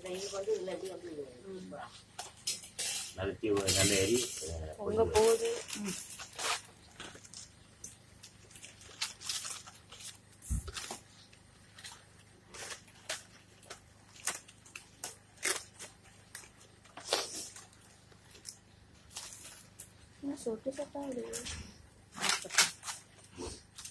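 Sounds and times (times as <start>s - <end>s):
palm fronds crackling in fire: 0.0s - 23.9s.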